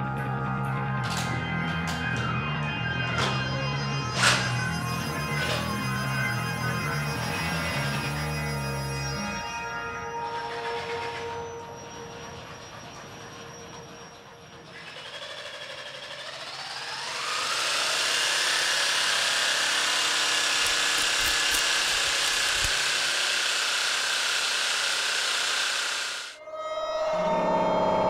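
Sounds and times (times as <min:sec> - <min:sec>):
machine whine rising to harsh drone: 0:00.0 - 0:28.0.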